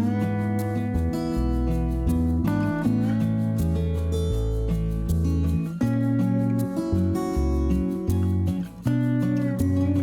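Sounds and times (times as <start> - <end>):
steady bass line: 0.0 - 10.0
strummed acoustic guitar: 0.0 - 10.0.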